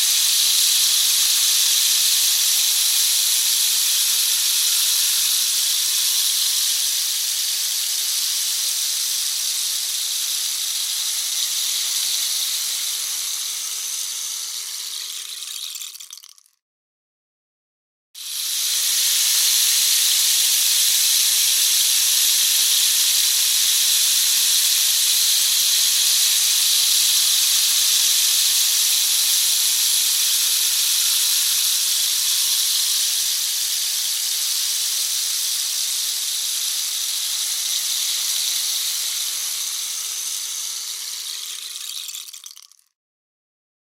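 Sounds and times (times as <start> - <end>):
rain stick pouring: 0.0 - 16.6, 18.2 - 43.0.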